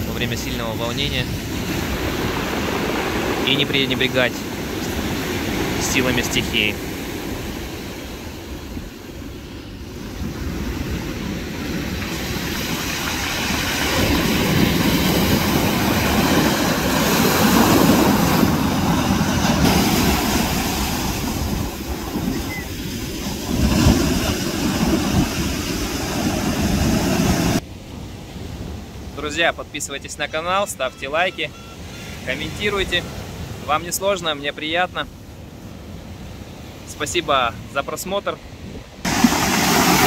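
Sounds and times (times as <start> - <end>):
surf on pebble beach: 0.0 - 40.0.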